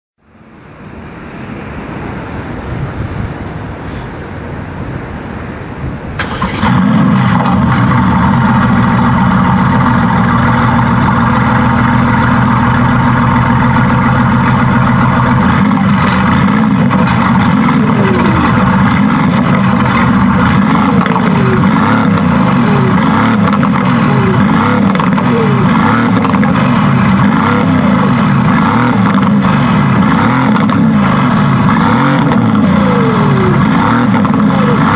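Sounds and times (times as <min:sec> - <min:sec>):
car engine running loudly: 0:06.2 - 0:34.9.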